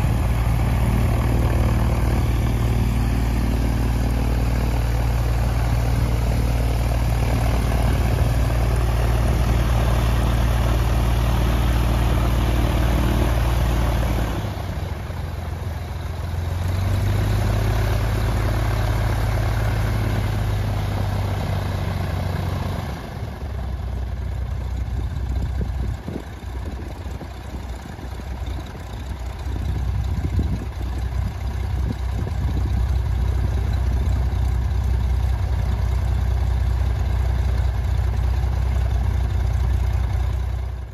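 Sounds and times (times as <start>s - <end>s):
propeller aircraft engine droning: 0.0s - 40.9s.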